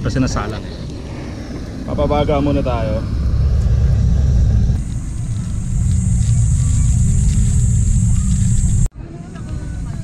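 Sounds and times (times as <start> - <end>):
wind buffeting microphone: 0.0 - 10.0
steady high hiss: 0.1 - 8.9.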